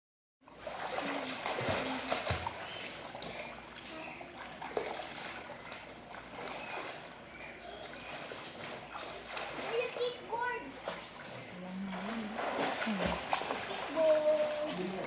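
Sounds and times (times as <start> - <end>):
children splashing in pool: 0.4 - 15.0
insect chirping: 0.4 - 15.0.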